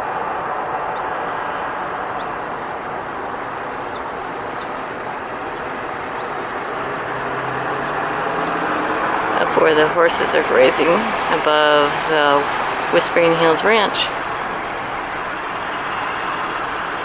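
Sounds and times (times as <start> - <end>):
road and engine noise: 0.0 - 17.0.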